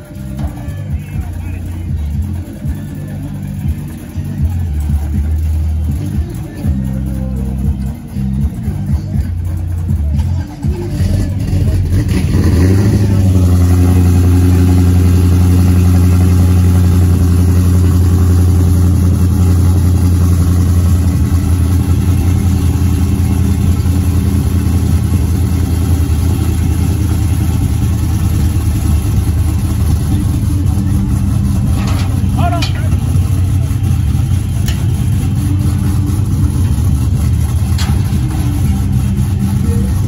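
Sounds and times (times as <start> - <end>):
car engine running at low revs: 0.0 - 40.0.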